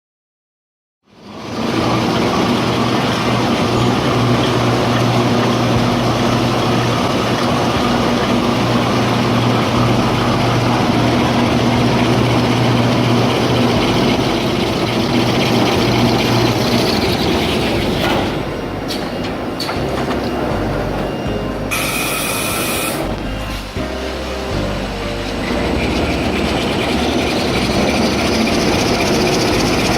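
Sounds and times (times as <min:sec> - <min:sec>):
machine mechanical din: 0:01.3 - 0:29.9
steady low hum: 0:01.6 - 0:29.9.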